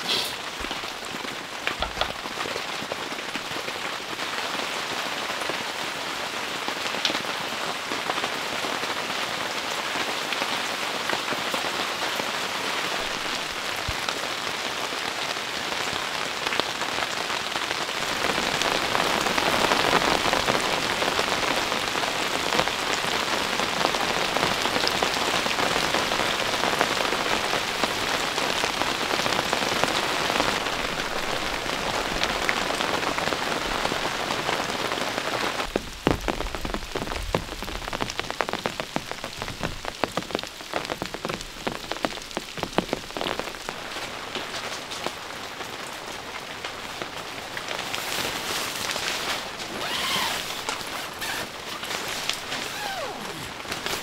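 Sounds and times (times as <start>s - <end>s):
heavy rain on a tent: 0.0s - 54.0s.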